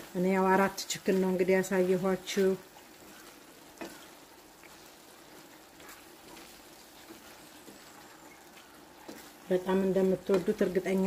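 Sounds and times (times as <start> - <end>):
food sizzling in a frying pan: 0.0 - 11.0
wooden spatula scraping: 0.0 - 11.0.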